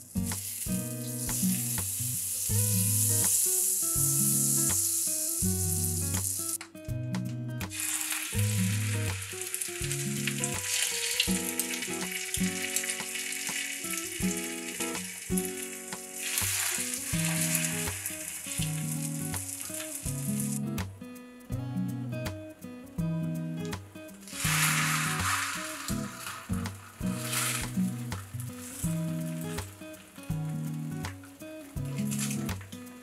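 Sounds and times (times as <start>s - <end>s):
butter sizzling in frying pan: 0.0s - 6.6s, 7.7s - 20.6s, 24.2s - 32.5s
soft background music: 0.0s - 33.0s.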